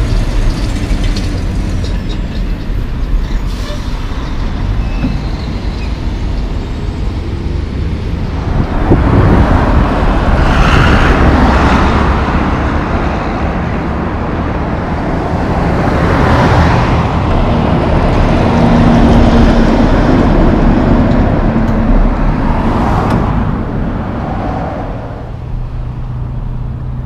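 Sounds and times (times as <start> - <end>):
logging truck approaching: 0.0 - 27.0
passing car tyre and engine noise: 0.0 - 27.0
truck diesel rumble: 0.0 - 27.0.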